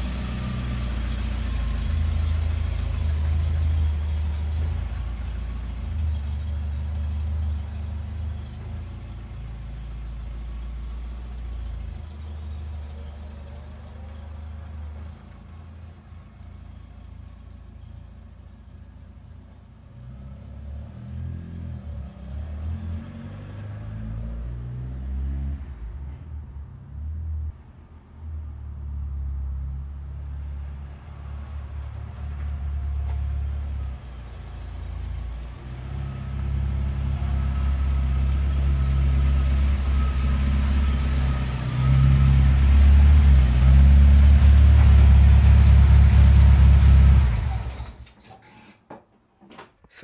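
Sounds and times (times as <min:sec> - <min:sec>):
car engine rumbling: 0:00.0 - 0:48.2.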